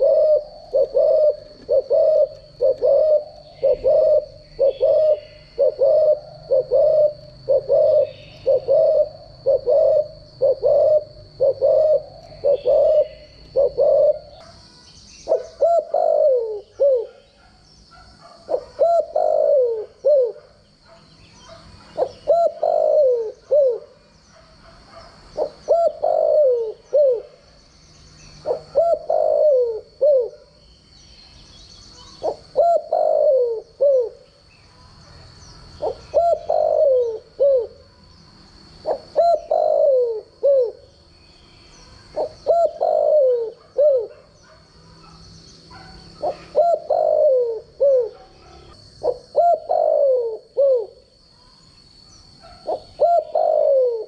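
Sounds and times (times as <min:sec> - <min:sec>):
dove cooing: 0:00.0 - 0:14.6, 0:15.2 - 0:20.7, 0:21.4 - 0:27.6, 0:28.3 - 0:30.6, 0:31.9 - 0:34.4, 0:35.6 - 0:41.0, 0:41.9 - 0:51.6, 0:52.4 - 0:54.0.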